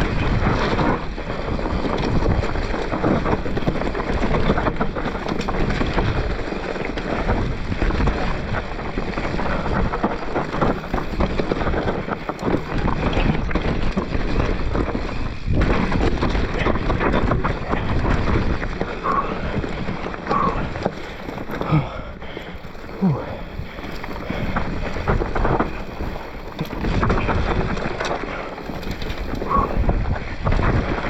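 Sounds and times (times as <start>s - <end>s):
bike clattering and knocking: 0.0s - 31.0s
tyre noise on dirt: 0.0s - 31.0s
wind buffeting microphone: 0.0s - 31.0s.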